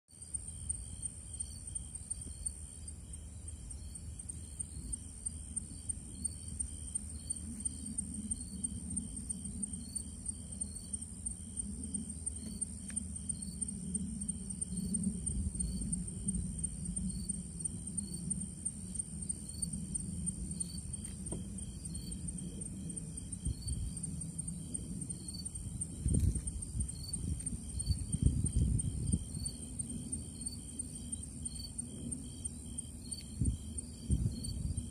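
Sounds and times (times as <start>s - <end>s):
faint insect chirps: 0.1s - 34.9s
insect high-pitched trill: 0.2s - 34.9s
low rumble: 3.5s - 34.9s.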